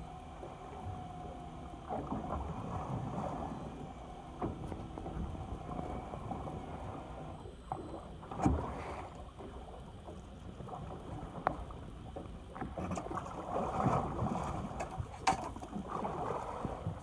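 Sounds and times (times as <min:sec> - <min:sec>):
water sloshing against boat hull: 0:00.0 - 0:17.0
wind: 0:00.0 - 0:17.0.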